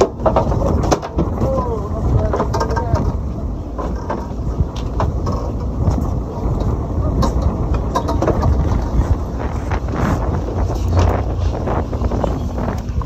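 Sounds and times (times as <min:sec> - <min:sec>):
boat engines rumbling: 0:00.0 - 0:13.0
wind buffeting microphone: 0:00.0 - 0:13.0.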